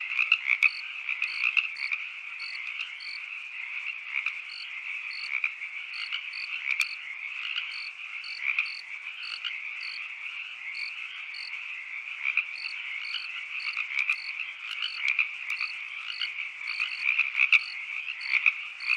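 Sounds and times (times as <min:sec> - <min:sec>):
frogs calling: 0:00.0 - 0:18.9
crickets chirping: 0:00.6 - 0:03.3, 0:04.4 - 0:11.8, 0:12.5 - 0:18.9.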